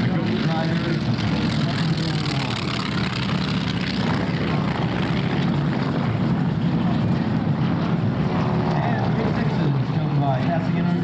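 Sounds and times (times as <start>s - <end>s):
propeller planes flying past: 0.0s - 11.0s.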